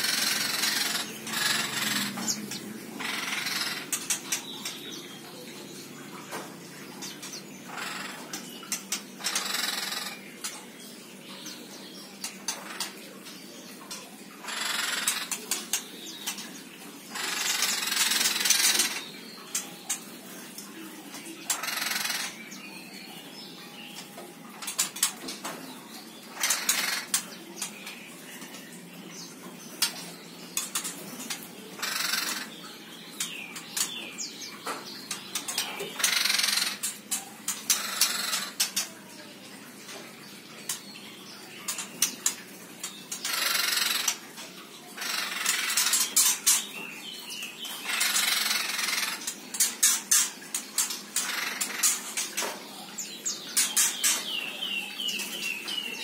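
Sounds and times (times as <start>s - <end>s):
birds chattering harshly: 0.0s - 56.0s.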